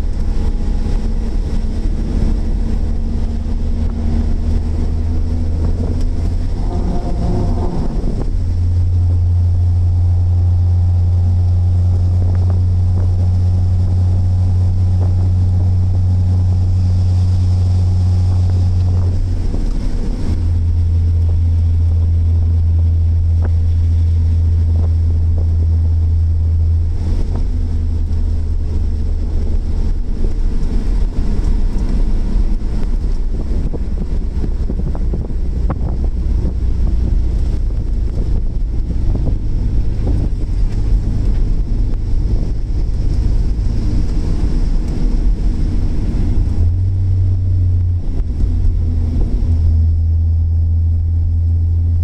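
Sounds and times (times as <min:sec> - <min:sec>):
car engine drone from inside: 0:00.0 - 0:52.0
rough rush of noise: 0:00.0 - 0:52.0.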